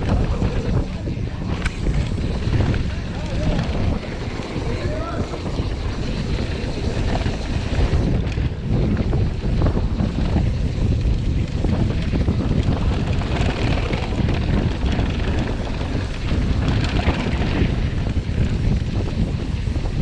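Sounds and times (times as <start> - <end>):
tyres rolling on gravel trail: 0.0 - 20.0
wind buffeting microphone: 0.0 - 20.0.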